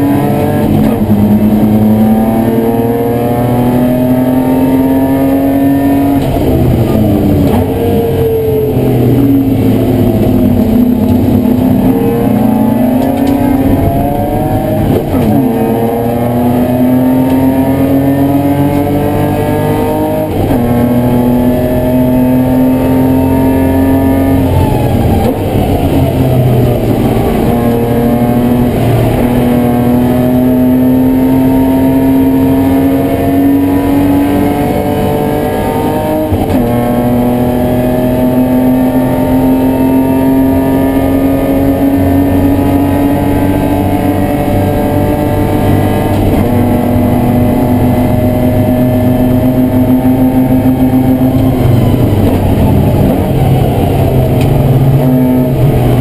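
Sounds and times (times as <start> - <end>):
race car engine revving through gears: 0.0 - 56.0.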